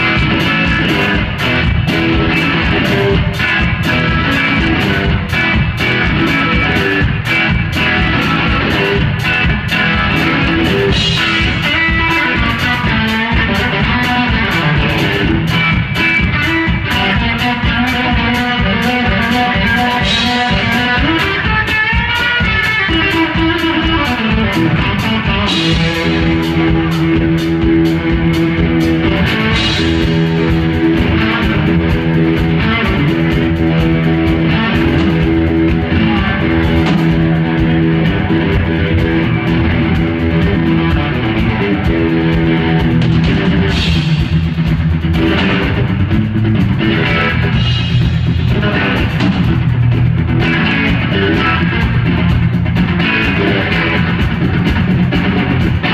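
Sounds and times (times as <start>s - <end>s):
drum kit: 0.0s - 55.9s
electric guitar: 0.0s - 55.9s.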